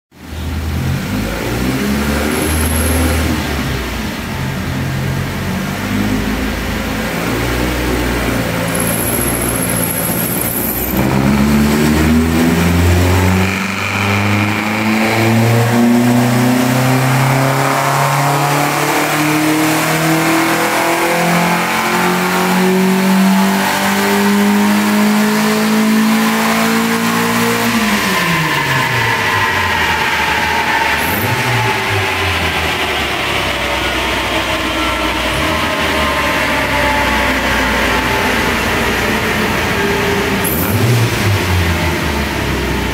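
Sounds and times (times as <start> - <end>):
car engine revving under load: 0.5 - 42.9.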